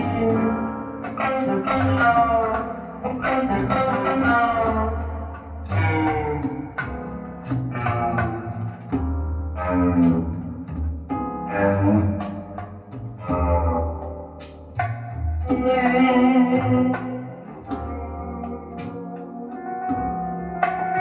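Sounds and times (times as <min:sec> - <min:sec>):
plucked guitar notes: 0:00.0 - 0:21.0
steady bass line: 0:00.0 - 0:21.0.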